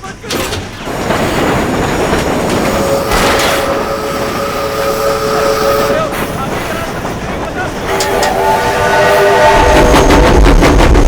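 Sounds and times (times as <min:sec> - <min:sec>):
train running rumble: 0:00.0 - 0:11.0
train whistle chord: 0:00.9 - 0:10.1.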